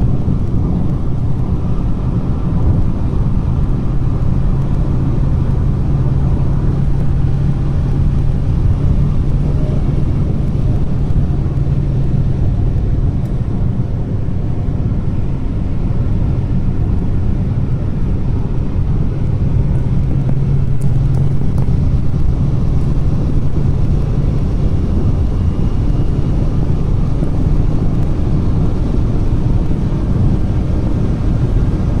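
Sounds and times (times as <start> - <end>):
low drone: 0.0 - 32.0
road and tyre noise: 0.0 - 32.0.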